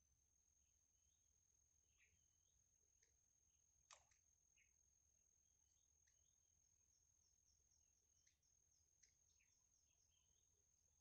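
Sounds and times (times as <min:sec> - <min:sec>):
faint chirps and ticks: 0:00.0 - 0:11.0
faint high whine: 0:00.0 - 0:11.0.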